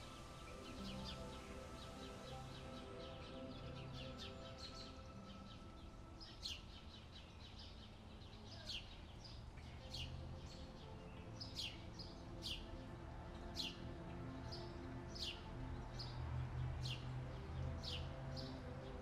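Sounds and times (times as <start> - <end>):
soft background music: 0.0 - 19.0.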